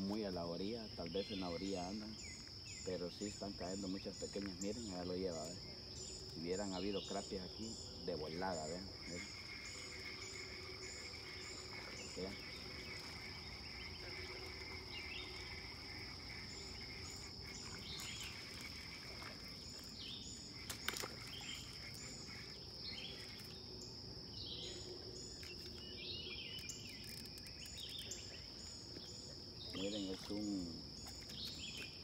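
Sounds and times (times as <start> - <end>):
high-pitched insect drone: 0.0 - 32.0
songbird chirps: 0.0 - 32.0.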